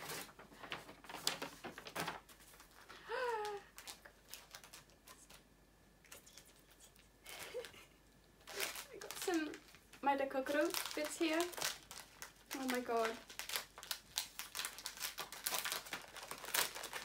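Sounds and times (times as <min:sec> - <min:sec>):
packaging rustling and crinkling: 0:00.0 - 0:05.4, 0:07.3 - 0:17.0.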